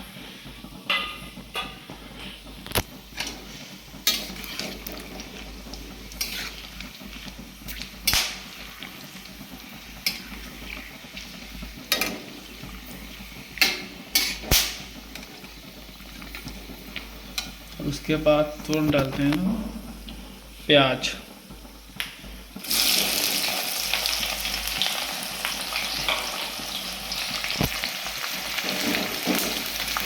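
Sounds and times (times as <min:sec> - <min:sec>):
spices sizzling in oil: 0:00.0 - 0:30.0.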